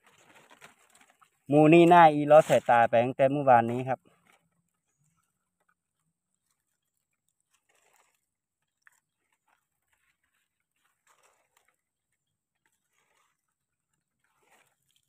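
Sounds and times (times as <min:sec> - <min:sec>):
crunching of dry leaf litter: 0:00.0 - 0:15.0.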